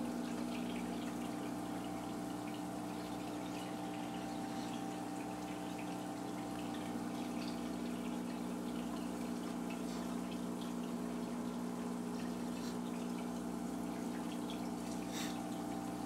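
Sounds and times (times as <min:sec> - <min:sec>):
aquarium filter hum: 0:00.0 - 0:16.0
water trickling and dripping: 0:00.0 - 0:16.0.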